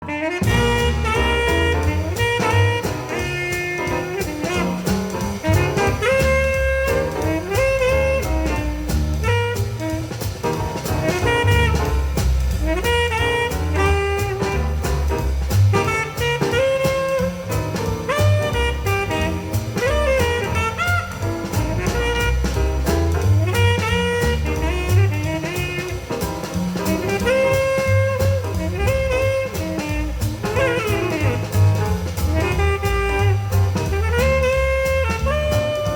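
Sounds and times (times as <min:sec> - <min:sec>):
jazz with saxophone lead: 0:00.0 - 0:35.9.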